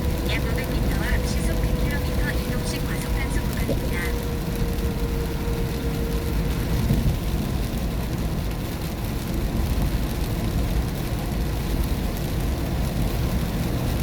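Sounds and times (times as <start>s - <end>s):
engine and tyre rumble: 0.0s - 14.0s
rain on car: 0.0s - 14.0s.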